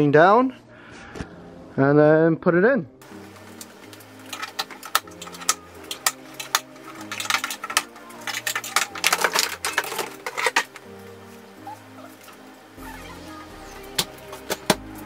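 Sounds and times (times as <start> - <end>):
background music with bass notes: 0.0 - 15.0.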